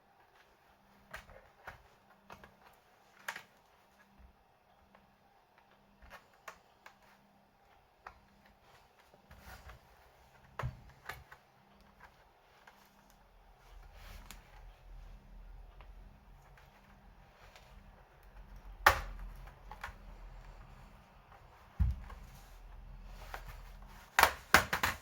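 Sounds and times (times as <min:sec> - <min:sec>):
faint clicks and taps: 0:00.1 - 0:25.0.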